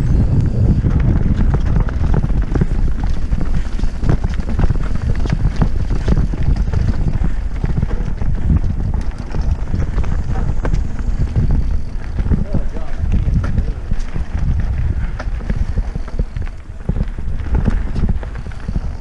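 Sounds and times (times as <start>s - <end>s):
wind buffeting microphone: 0.0s - 19.0s
bike tyres clattering over ground: 0.5s - 19.0s.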